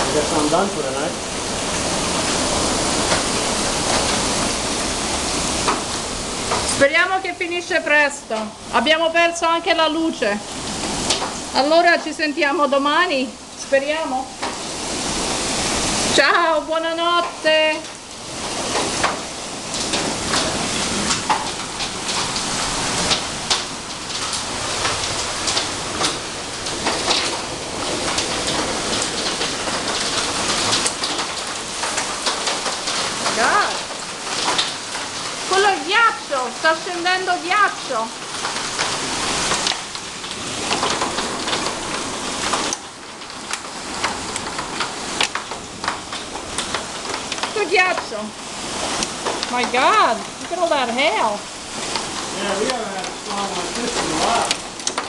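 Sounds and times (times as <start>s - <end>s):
hailstones ticking on surfaces: 0.0s - 55.0s
heavy rain downpour: 0.0s - 55.0s.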